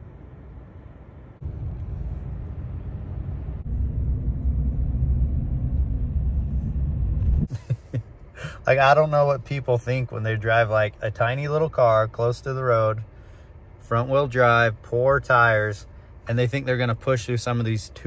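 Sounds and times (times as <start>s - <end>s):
car interior rumble: 0.0s - 18.0s.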